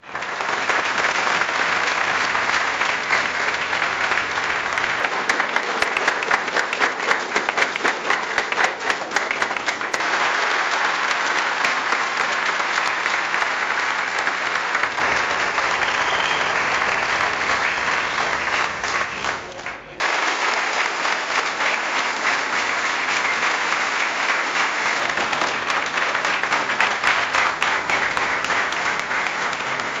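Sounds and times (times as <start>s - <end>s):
crowd applause: 0.0s - 30.0s.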